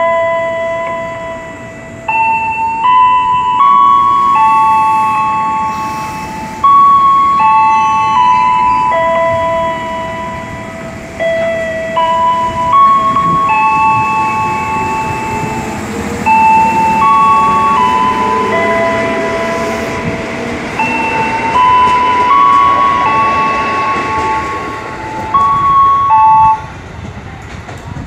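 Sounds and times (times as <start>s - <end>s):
electronic tone melody: 0.0s - 26.7s
electric train rumbling past: 0.0s - 28.0s.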